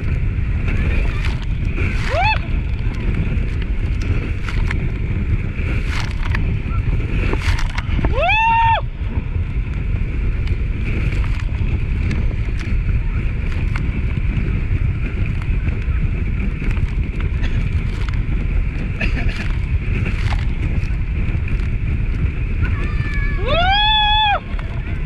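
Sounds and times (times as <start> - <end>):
motorboat engine running: 0.0 - 25.0
wind rushing over microphone: 0.0 - 25.0.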